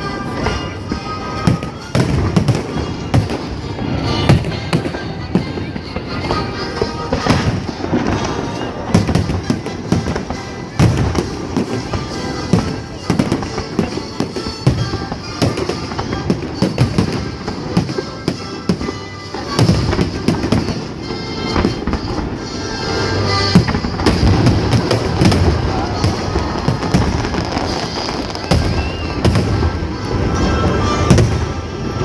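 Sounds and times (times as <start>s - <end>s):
fireworks bursting and crackling: 0.0s - 32.0s
music playing: 0.0s - 32.0s.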